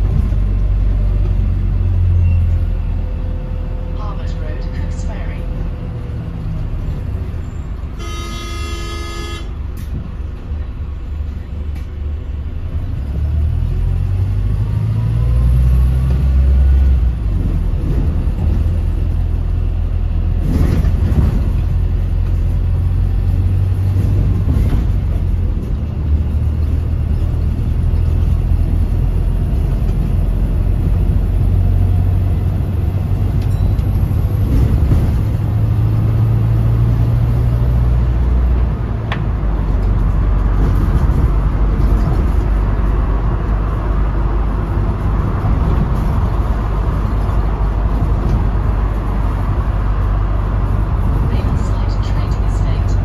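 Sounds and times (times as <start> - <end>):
bus engine pulling hard: 0.0 - 53.0
road rumble: 0.0 - 53.0.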